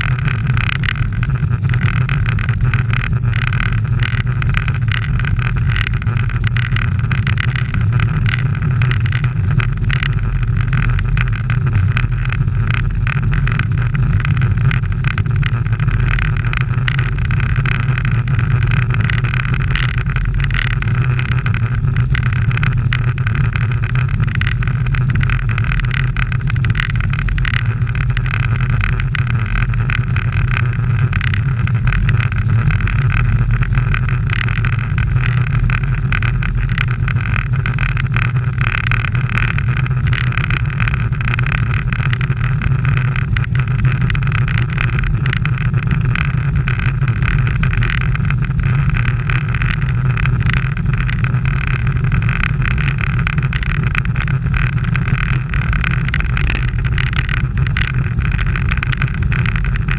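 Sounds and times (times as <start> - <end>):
tyre noise on asphalt: 0.0 - 59.9.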